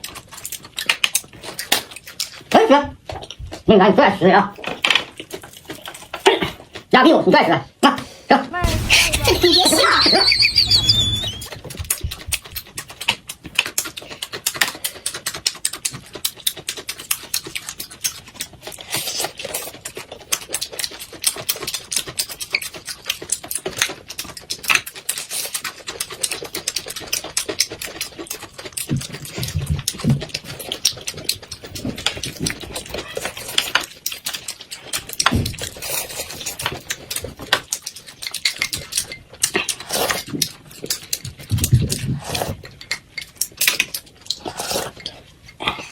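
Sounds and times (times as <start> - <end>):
chewing and lip-smacking: 0.0 - 3.7, 4.6 - 6.9, 10.8 - 45.9.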